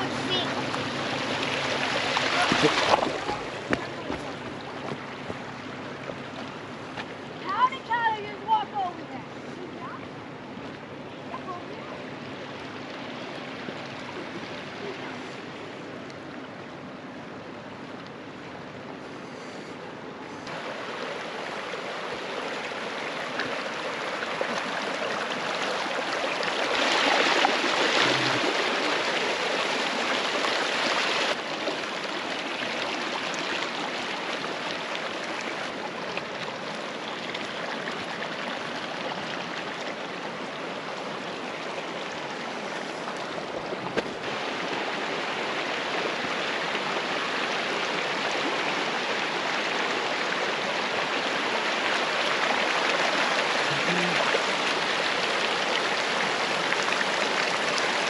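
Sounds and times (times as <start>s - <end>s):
flood water rushing: 0.0s - 58.0s.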